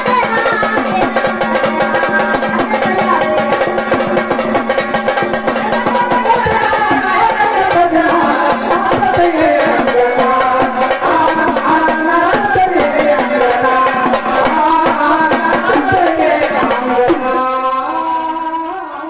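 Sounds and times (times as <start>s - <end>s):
fast drum rhythm: 0.0s - 19.0s.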